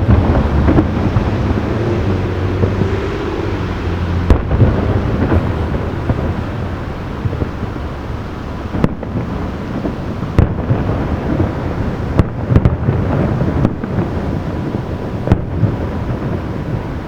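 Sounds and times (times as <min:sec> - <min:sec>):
fireworks booming: 0:00.0 - 0:17.0
rolling rumble of echoing bursts: 0:00.0 - 0:17.0.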